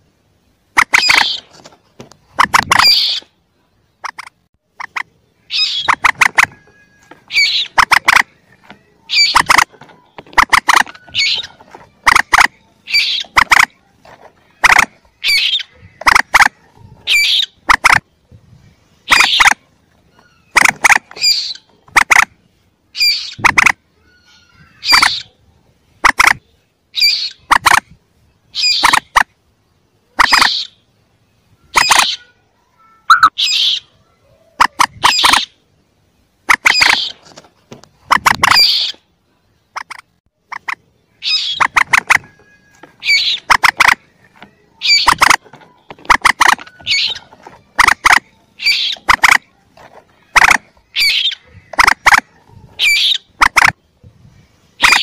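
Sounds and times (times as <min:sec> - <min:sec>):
moorhen chick calls: 0:00.7 - 0:03.4, 0:04.0 - 0:29.4, 0:30.1 - 0:32.4, 0:33.1 - 0:35.7, 0:36.4 - 0:37.2, 0:37.9 - 0:53.9, 0:54.8 - 0:55.0.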